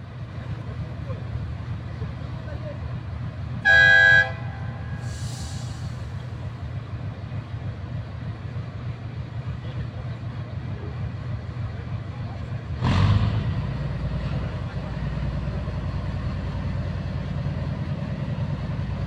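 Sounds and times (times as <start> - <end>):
diesel locomotive engine idling: 0.0 - 19.0.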